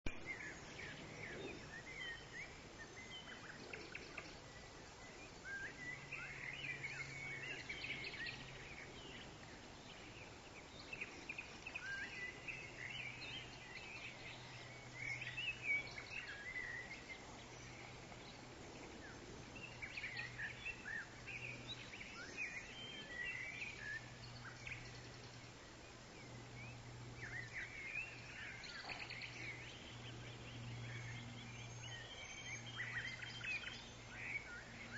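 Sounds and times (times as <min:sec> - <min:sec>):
faint low drone: 0:00.1 - 0:34.9.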